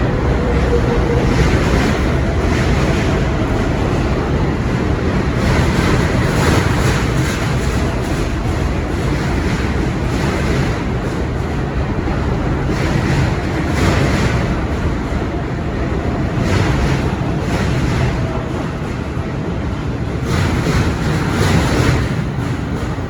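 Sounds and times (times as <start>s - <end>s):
subway train rumbling: 0.0s - 23.0s.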